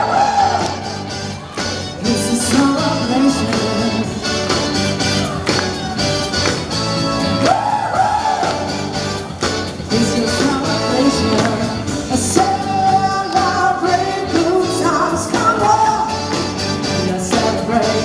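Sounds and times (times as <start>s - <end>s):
pop rock song over loudspeakers: 0.0s - 18.0s.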